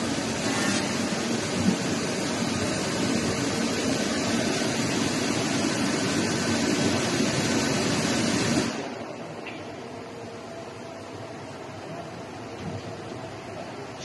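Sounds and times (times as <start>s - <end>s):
industrial machinery running: 0.0s - 14.0s.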